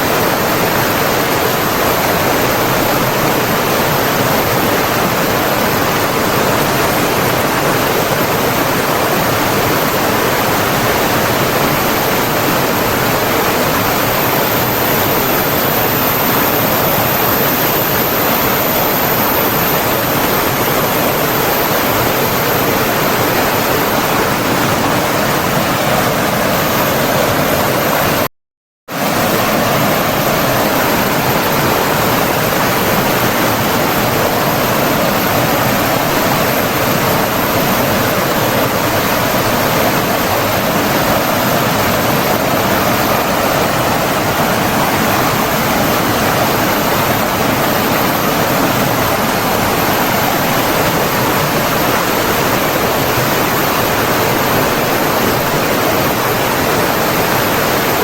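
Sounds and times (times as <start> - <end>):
rushing flowing water: 0.0 - 28.3, 28.9 - 58.0.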